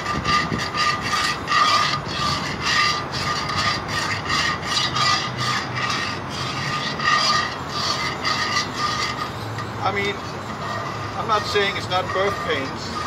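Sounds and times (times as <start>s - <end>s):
metal utensil scraping frying pan: 0.0s - 13.0s.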